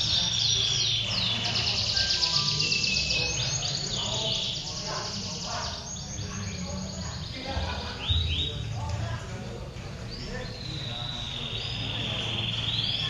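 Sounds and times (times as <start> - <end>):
canaries singing: 0.0 - 13.0
murmur of people: 0.0 - 13.0.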